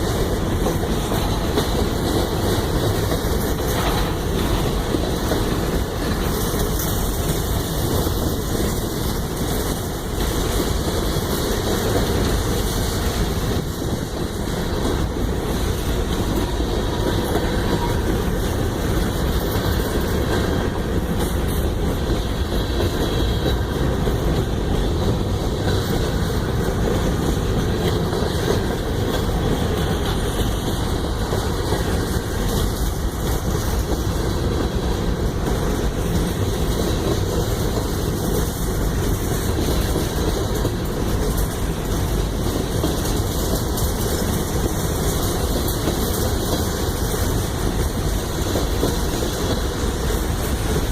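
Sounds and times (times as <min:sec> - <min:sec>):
train rumbling over track: 0:00.0 - 0:50.9.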